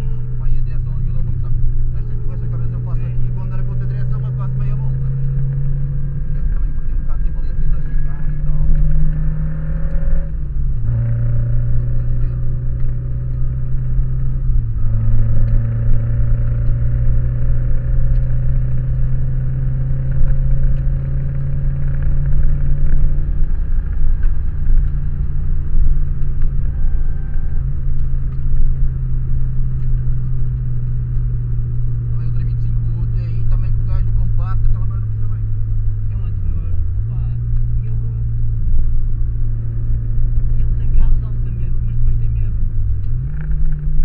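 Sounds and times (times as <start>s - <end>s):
car engine running hard: 0.0s - 44.0s.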